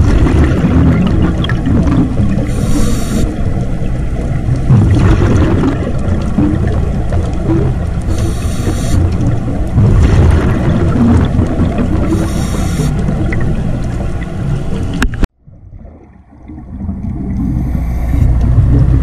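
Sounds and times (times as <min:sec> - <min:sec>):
regulator bubbles hissing: 0:00.0 - 0:15.1, 0:15.8 - 0:19.0
underwater rumble: 0:00.0 - 0:19.0.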